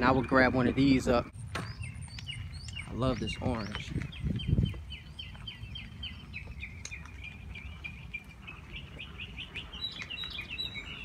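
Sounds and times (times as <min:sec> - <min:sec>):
small bird chirping rapidly: 0:00.0 - 0:11.0.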